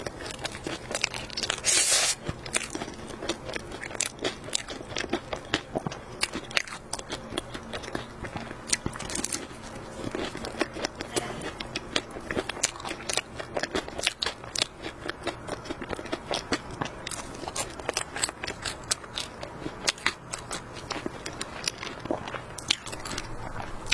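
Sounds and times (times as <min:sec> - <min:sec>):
pastry crunching while chewed: 0:00.0 - 0:23.9.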